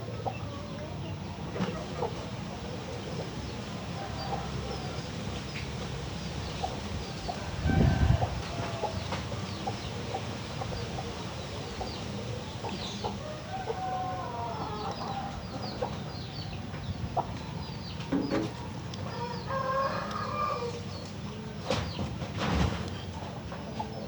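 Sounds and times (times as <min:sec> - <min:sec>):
chicken clucking: 0:00.0 - 0:24.0.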